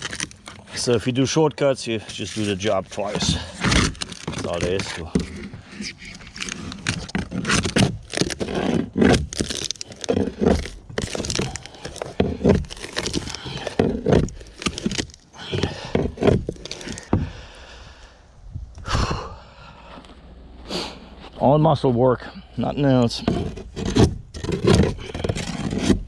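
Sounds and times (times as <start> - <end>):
rough hand scraping: 0.0 - 18.1, 19.8 - 26.0.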